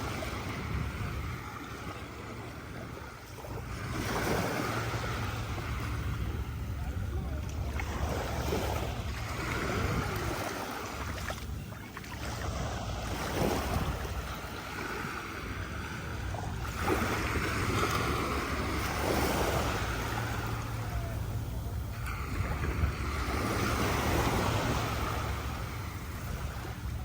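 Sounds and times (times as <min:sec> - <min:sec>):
sea waves washing on beach: 0:00.0 - 0:27.0
wind on microphone: 0:00.0 - 0:27.0.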